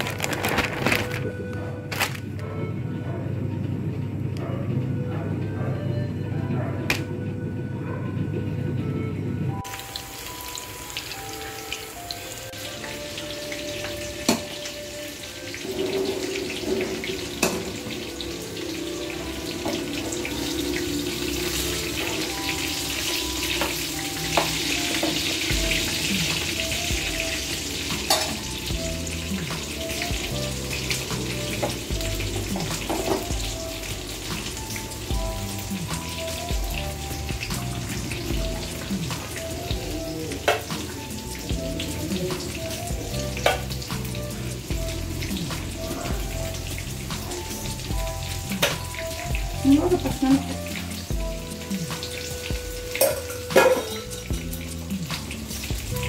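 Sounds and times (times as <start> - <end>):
faint background music: 0.0 - 56.0
meat sizzling in a pan: 9.6 - 56.0.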